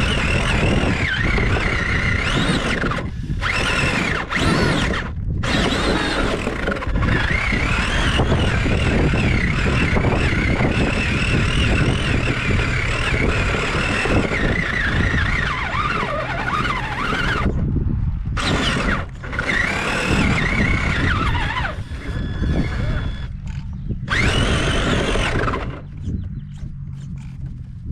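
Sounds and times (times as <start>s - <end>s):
small nitro engine revving: 0.0s - 17.7s, 18.3s - 26.2s.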